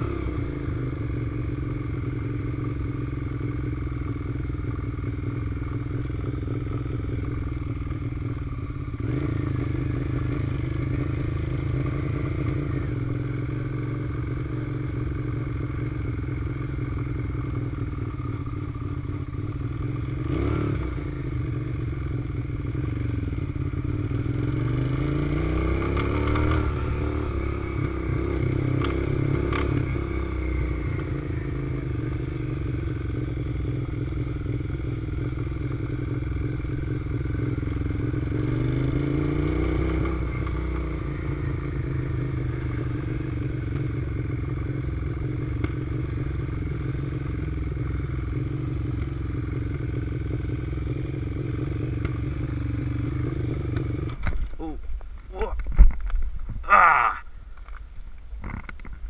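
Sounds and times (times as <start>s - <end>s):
motorcycle engine revving: 0.0s - 54.8s.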